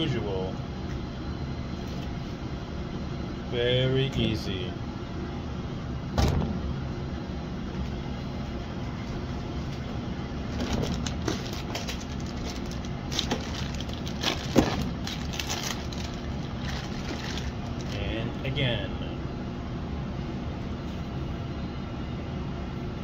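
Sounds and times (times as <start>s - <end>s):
ventilation hum: 0.0s - 23.0s.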